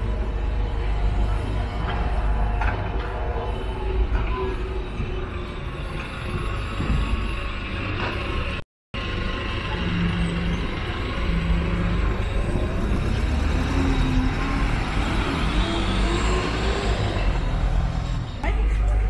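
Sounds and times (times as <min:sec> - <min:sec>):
traffic engine rumble: 0:00.0 - 0:19.0.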